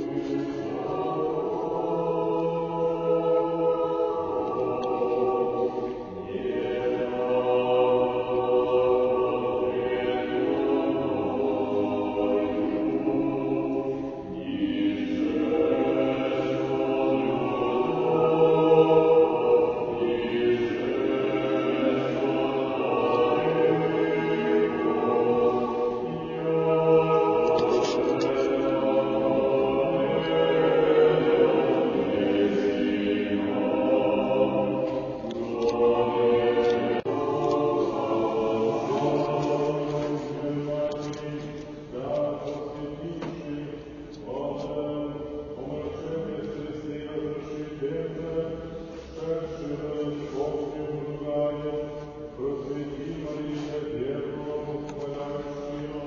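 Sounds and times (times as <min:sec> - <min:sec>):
choir chanting unaccompanied: 0:00.0 - 0:56.0.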